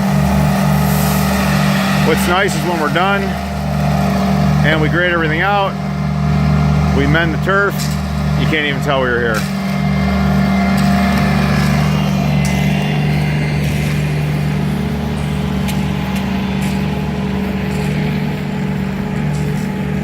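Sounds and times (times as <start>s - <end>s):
skid loader engine running: 0.0s - 20.0s.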